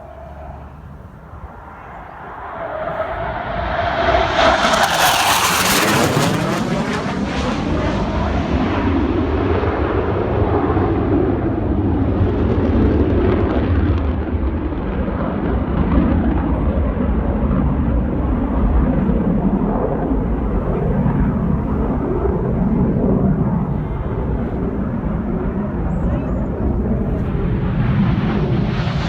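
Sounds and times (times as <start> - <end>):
jet passing by: 0.0 - 29.0.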